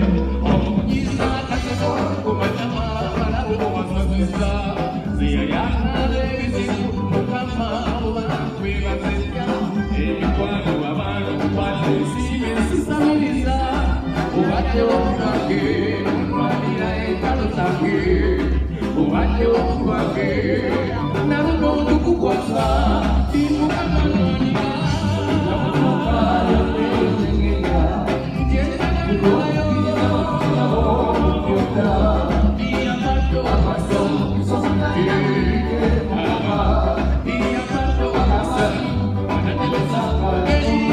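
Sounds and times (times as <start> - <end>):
bass guitar: 0.0 - 40.9
person singing: 0.0 - 40.9
repeating bass beat: 0.0 - 40.9.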